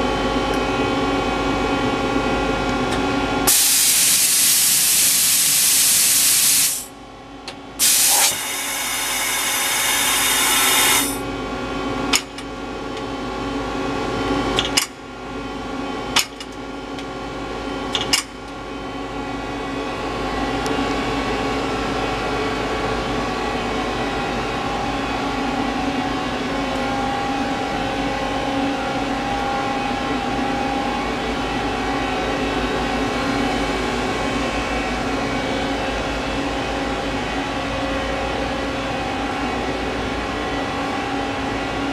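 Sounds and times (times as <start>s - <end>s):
machine mechanical hum: 0.0s - 41.9s.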